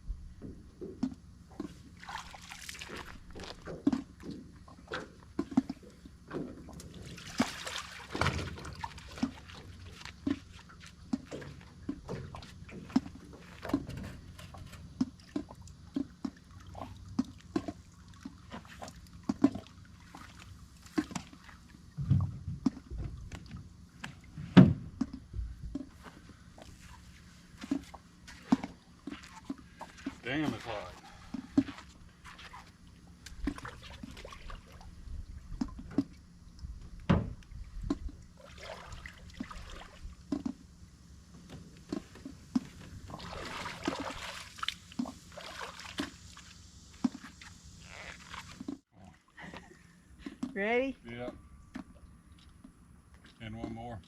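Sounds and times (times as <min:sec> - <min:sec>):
knocks and clunks on boat: 0:00.0 - 0:02.2, 0:02.9 - 0:40.7, 0:41.4 - 0:45.2
water sloshing around boat: 0:00.0 - 0:54.0.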